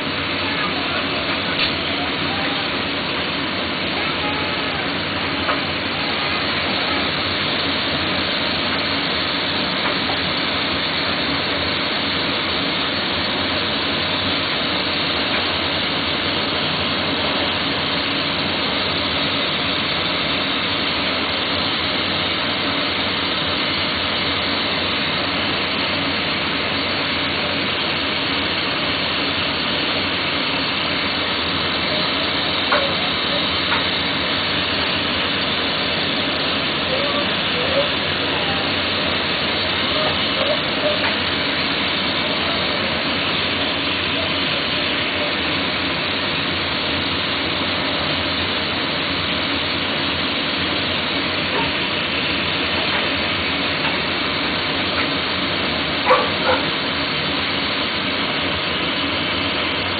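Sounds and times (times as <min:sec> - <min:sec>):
torch burning with a hiss: 0:00.0 - 0:59.9.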